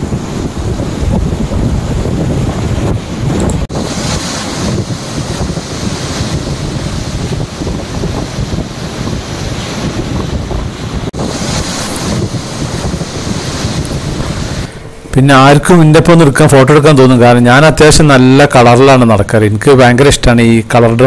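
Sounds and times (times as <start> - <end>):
wind buffeting microphone: 0.0 - 18.1
rushing water of boat wake: 0.0 - 18.6.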